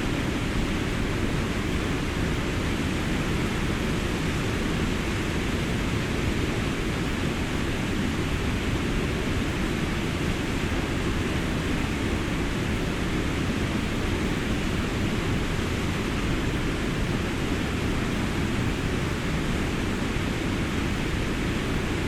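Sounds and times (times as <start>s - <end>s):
water rushing over a dam: 0.0s - 22.0s.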